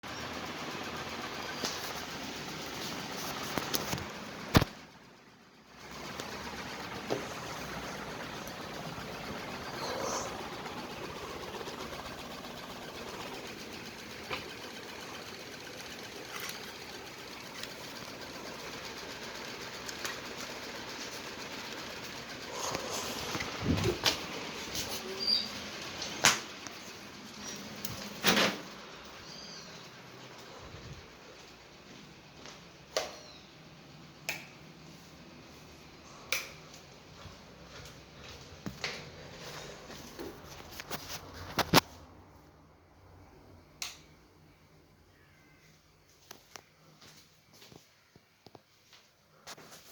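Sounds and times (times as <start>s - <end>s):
ceiling fan whirring: 0.0s - 49.9s.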